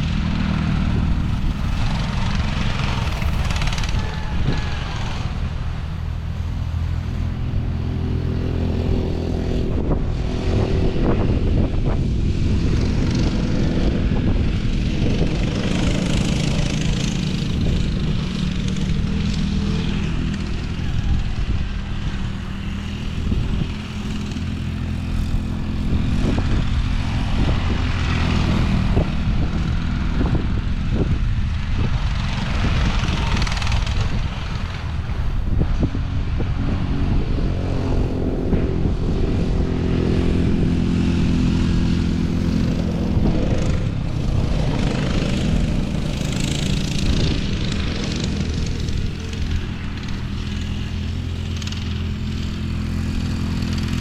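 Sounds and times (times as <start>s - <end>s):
small vehicle engine running: 0.0s - 54.0s
wind noise on microphone: 0.0s - 54.0s.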